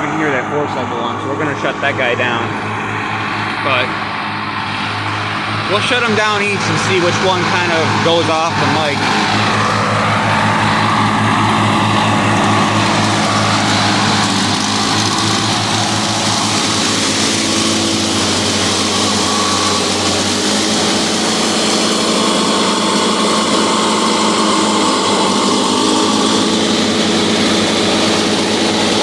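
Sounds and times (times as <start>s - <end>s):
lawnmower engines droning: 0.0s - 29.0s.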